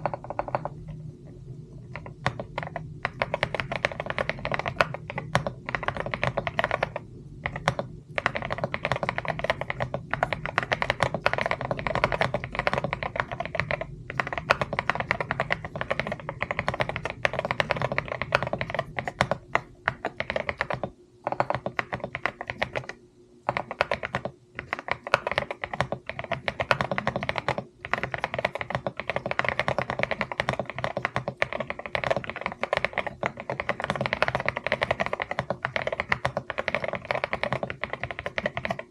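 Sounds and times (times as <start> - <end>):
fast typing on mechanical keyboard: 0.0 - 1.0, 1.8 - 38.9.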